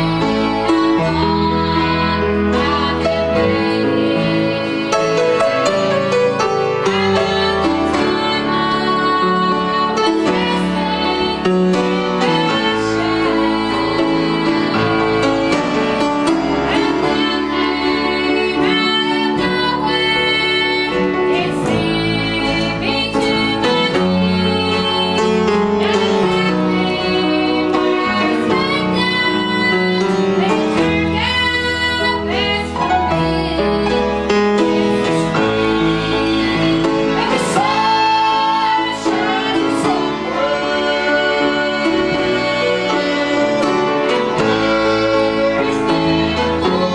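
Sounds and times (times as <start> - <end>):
woman singing into a microphone: 0.0 - 5.4, 6.8 - 46.9
gospel church band: 0.0 - 46.9
grand piano: 0.0 - 46.9.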